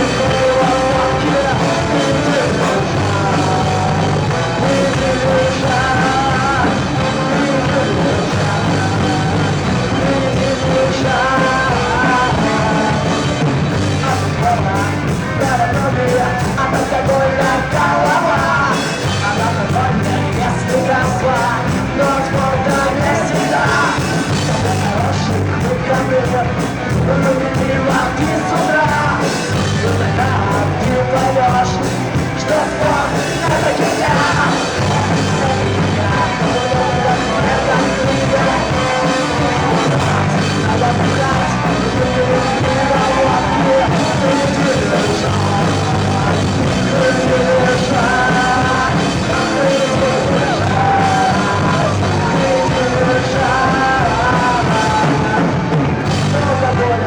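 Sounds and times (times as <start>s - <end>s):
person singing: 0.0s - 57.0s
rock band playing live: 0.0s - 57.0s.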